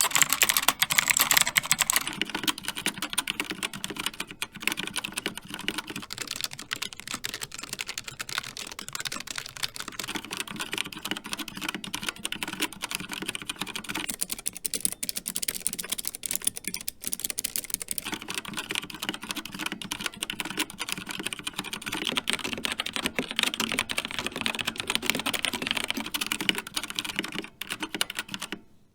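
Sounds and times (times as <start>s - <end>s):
typing on mechanical keyboards: 0.0s - 28.6s.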